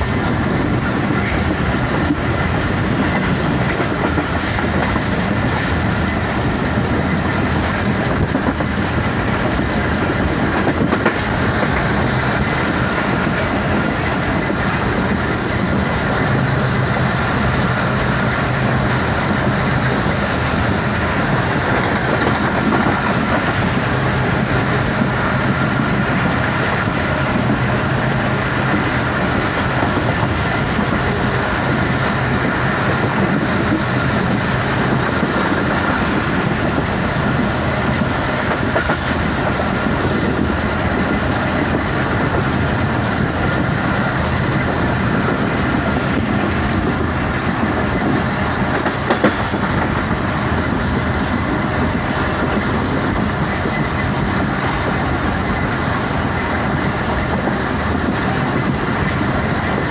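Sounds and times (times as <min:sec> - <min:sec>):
train running on track: 0:00.0 - 0:59.9.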